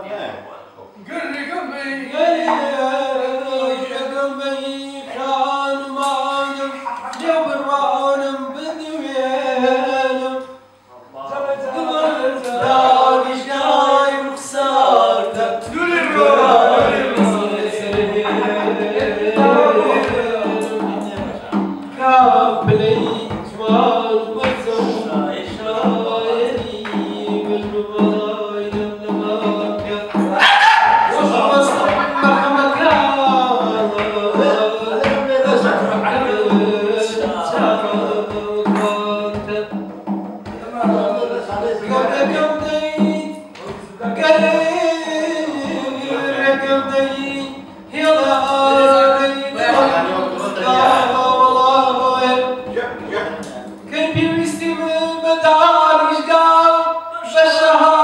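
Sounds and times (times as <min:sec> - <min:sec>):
man singing into microphone: 0:01.0 - 0:10.7, 0:11.3 - 0:58.0.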